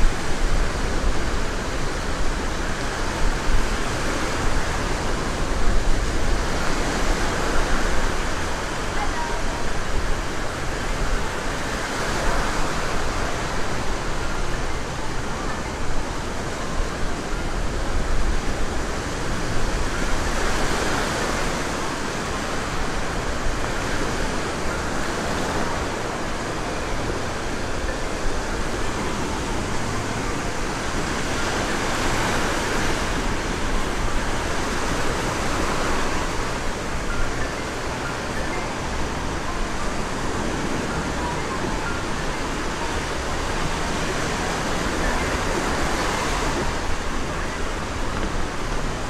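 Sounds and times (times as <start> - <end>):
waves washing up beach: 0.0 - 49.0.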